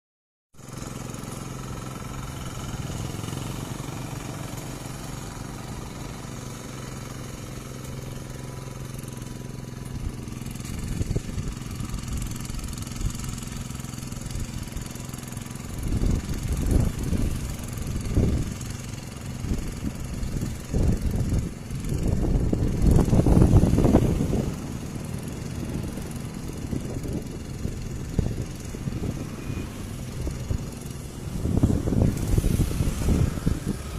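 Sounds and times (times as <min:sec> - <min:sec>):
small engine running: 0:00.6 - 0:33.9.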